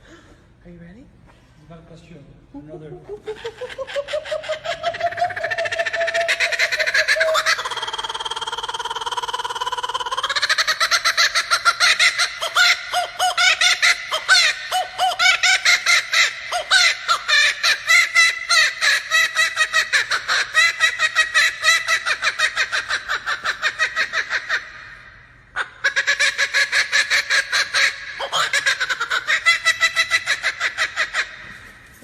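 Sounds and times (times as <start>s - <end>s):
kookaburra laughing call: 2.6s - 31.8s.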